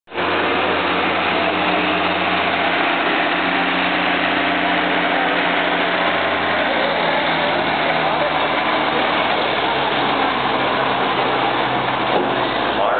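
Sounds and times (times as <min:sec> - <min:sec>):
truck diesel engine idling: 0:00.1 - 0:12.9.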